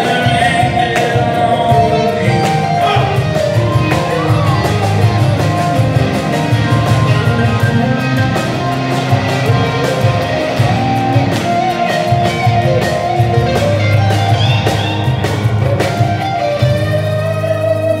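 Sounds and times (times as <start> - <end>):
acoustic guitar strumming: 0.0 - 18.0
electric keyboard: 0.0 - 18.0.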